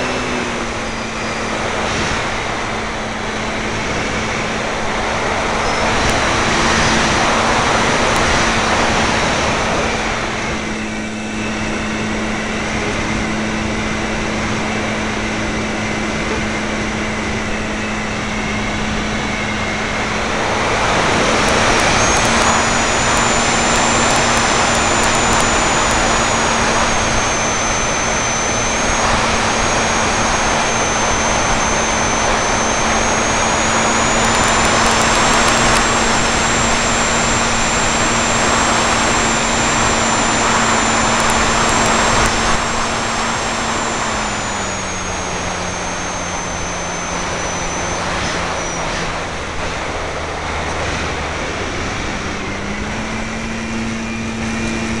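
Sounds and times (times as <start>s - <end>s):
electric motor and propeller hum: 0.0s - 55.0s
thin high whine: 0.0s - 55.0s.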